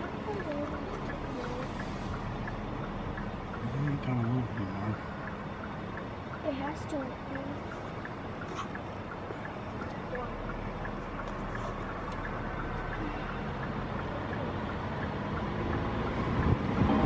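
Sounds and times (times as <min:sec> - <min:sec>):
low car rumble: 0:00.0 - 0:17.0.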